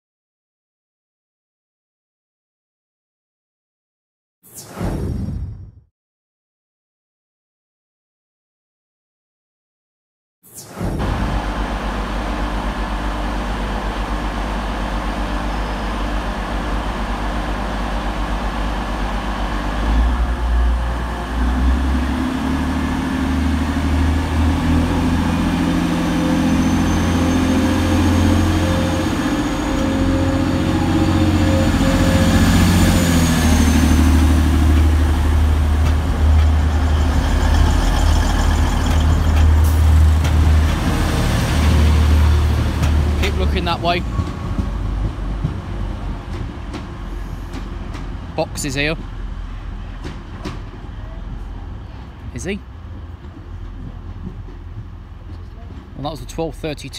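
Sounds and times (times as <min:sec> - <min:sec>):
diesel train engine: 0:10.8 - 0:56.9.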